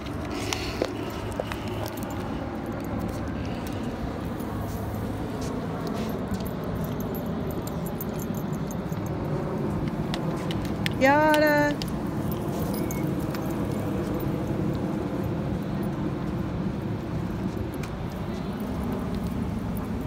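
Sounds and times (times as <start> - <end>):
beach wind: 0.0 - 20.0
leash hardware jingling: 0.0 - 20.0.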